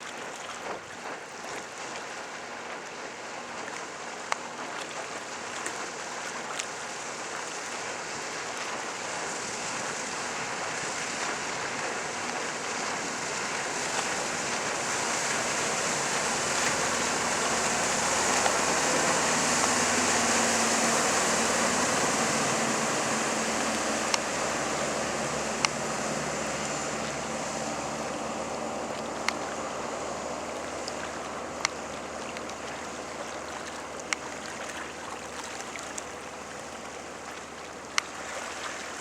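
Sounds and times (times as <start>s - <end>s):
water rushing around boat: 0.0s - 39.0s
wind: 0.0s - 39.0s.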